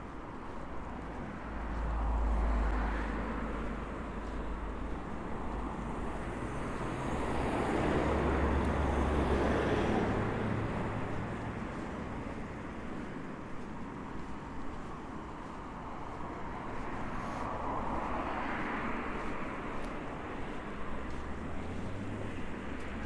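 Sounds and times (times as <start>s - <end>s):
steady traffic hum: 0.0s - 23.0s
vehicles passing: 0.0s - 23.0s.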